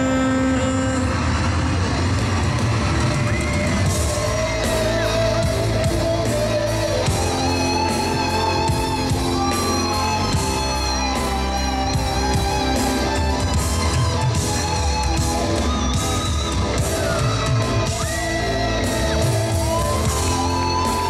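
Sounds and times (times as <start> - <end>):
drums keeping time: 0.0 - 21.0
electric guitar solo: 3.9 - 21.0.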